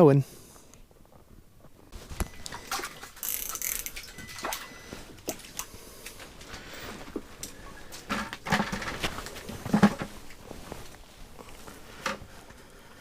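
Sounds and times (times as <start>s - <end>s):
rustling: 0.6s - 13.0s.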